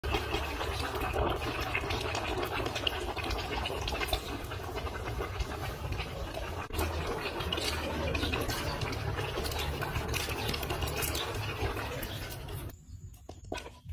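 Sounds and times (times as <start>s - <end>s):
crabs sizzling in bubbling oil: 0.0s - 12.7s.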